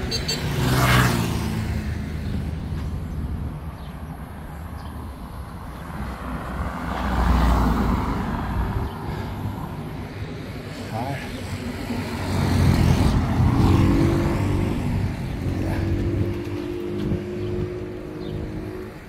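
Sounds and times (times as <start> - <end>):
car passing: 0.0 - 19.0.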